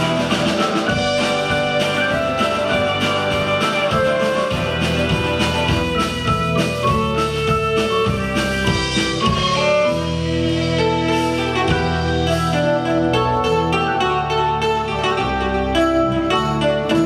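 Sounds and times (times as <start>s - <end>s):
folk instrumental music with drum beat: 0.0s - 17.0s.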